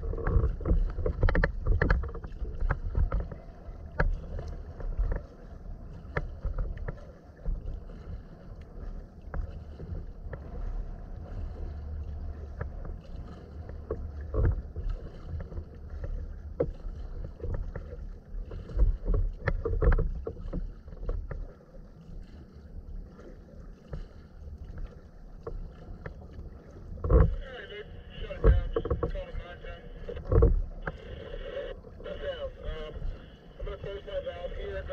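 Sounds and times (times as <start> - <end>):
water splashing around kayak: 0.0 - 34.9
wind rumble on microphone: 0.0 - 34.9.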